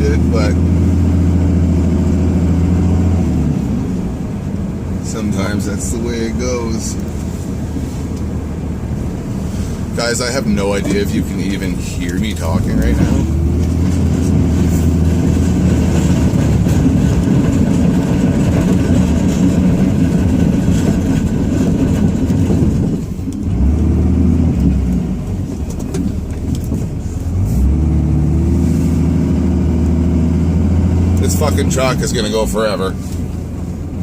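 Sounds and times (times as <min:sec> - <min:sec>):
diesel engine running under load: 0:00.0 - 0:34.0.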